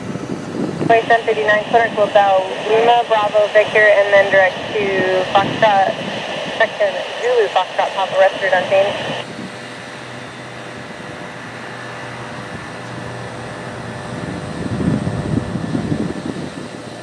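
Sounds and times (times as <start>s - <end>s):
distant turboprop plane droning: 0.0s - 17.0s.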